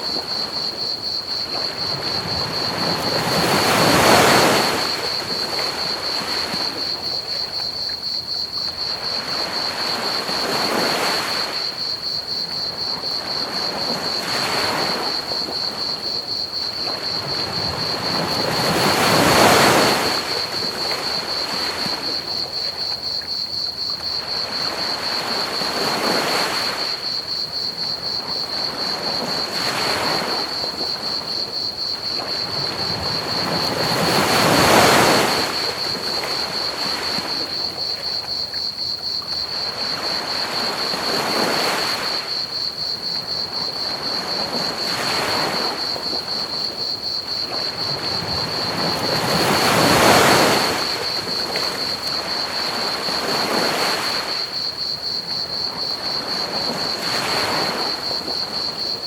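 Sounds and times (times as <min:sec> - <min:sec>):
cricket trill: 0:00.0 - 0:59.0
ocean waves washing onto beach: 0:00.0 - 0:59.0.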